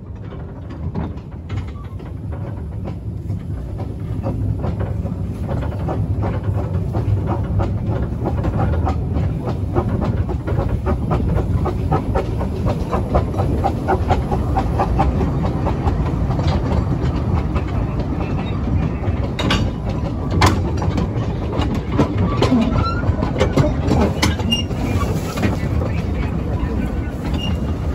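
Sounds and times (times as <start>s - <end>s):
steam locomotive running: 0.0s - 27.9s
wheels clattering over rails: 0.0s - 27.9s.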